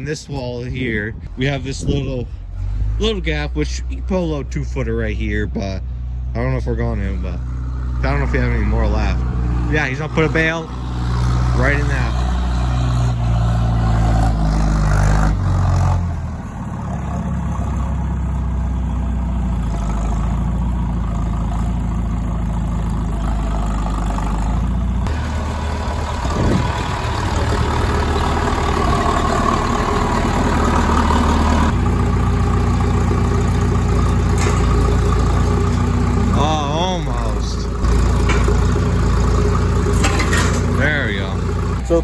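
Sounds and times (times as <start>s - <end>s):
loader engine revving: 0.0s - 42.0s.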